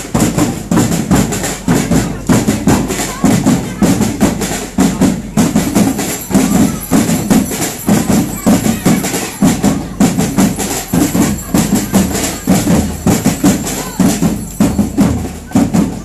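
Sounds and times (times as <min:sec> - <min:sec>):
rattling percussion: 0:00.0 - 0:16.0
steady drum beat: 0:00.0 - 0:16.0.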